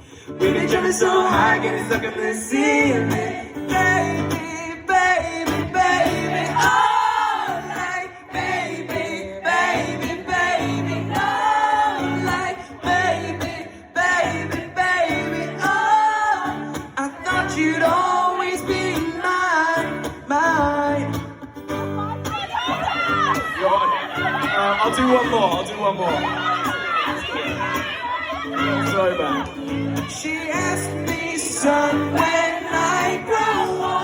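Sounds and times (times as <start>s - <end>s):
voices singing: 0.0s - 20.7s, 22.2s - 34.0s
strummed acoustic guitar: 0.0s - 34.0s.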